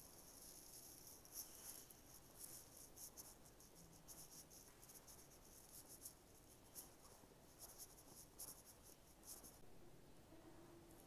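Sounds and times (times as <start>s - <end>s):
faint high-pitched scratching: 0.0s - 9.7s.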